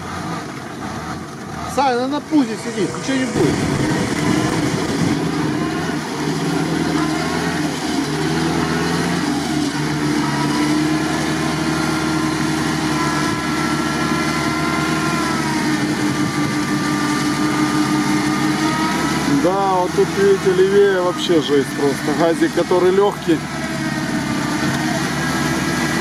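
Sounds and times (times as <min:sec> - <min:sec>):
jeep engine running under load: 0:00.0 - 0:26.0.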